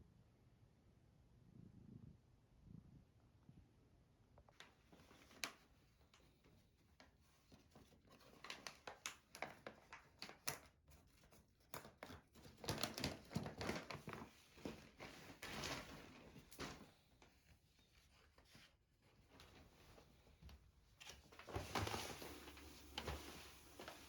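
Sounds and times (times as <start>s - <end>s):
crinkling and rustling: 4.5s - 24.0s.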